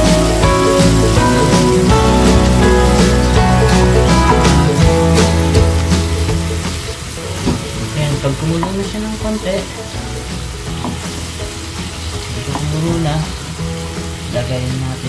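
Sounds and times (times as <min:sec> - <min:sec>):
garlic and onion sizzling: 0:00.0 - 0:15.0.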